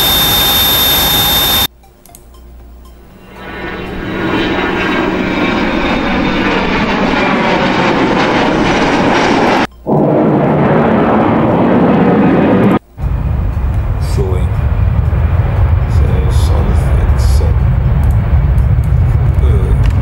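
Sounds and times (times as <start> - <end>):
jet flying over with whine: 0.0 - 1.7, 3.0 - 20.0
jet plane arriving: 0.0 - 1.7, 3.1 - 20.0
aircraft low rumble: 2.7 - 20.0.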